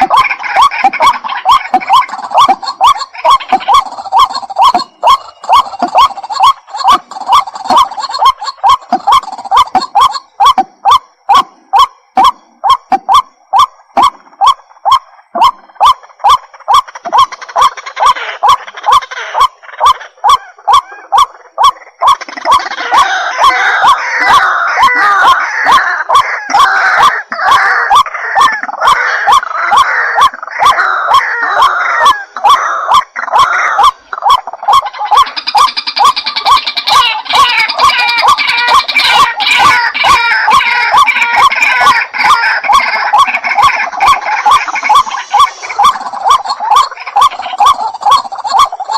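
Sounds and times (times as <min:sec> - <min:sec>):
waterhen croaking calls: 0:00.0 - 0:48.9.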